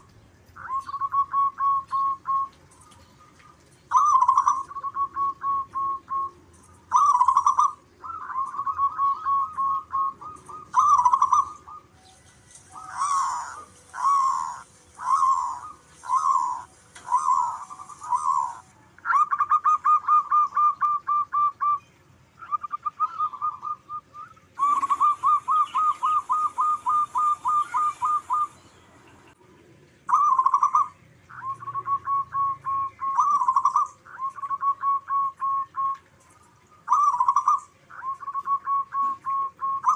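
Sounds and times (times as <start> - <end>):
doves cooing: 0.0 - 21.8, 22.4 - 39.9.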